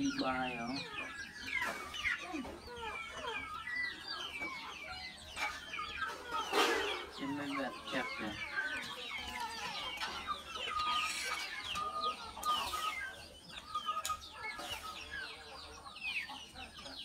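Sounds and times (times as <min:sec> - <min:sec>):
chicks peeping: 0:00.0 - 0:17.0
hens clucking: 0:00.0 - 0:17.0.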